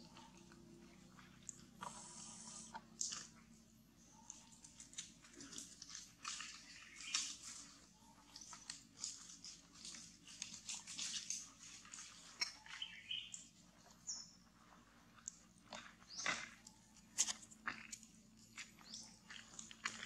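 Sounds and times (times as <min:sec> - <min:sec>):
monkey chewing food: 0:00.0 - 0:20.0.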